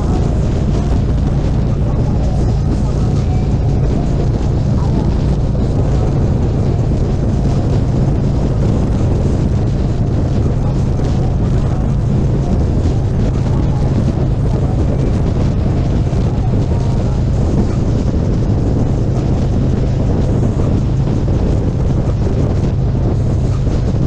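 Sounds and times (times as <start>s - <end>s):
motorcycle engine drone: 0.0s - 24.0s
wind noise on microphone: 0.0s - 24.0s.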